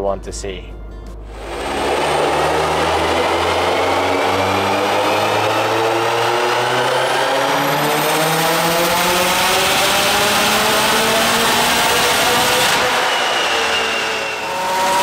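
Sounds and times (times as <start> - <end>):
high whine: 0.9 - 15.0
car engine revving: 1.2 - 15.0.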